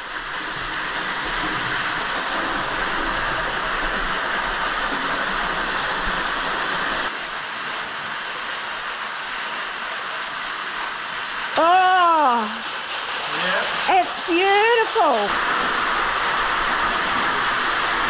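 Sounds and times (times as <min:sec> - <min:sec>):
creek cascading over rock: 0:00.0 - 0:18.0.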